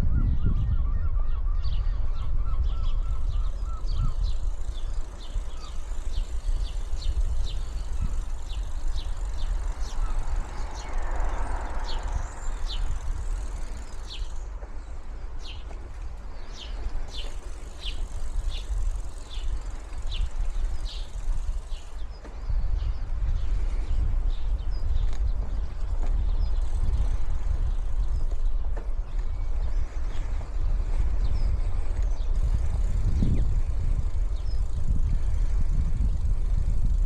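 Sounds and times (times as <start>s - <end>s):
wind and riding noise rumble: 0.0s - 37.0s
birds chirping: 0.5s - 36.6s.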